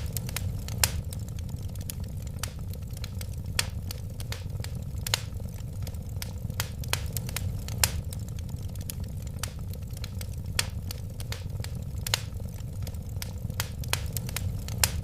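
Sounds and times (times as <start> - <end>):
low rumble of burning: 0.0 - 15.0
wood fire popping and snapping: 0.0 - 15.0.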